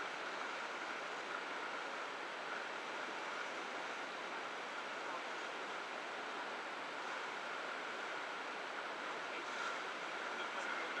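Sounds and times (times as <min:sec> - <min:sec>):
sea water streaming past hull: 0:00.0 - 0:11.0.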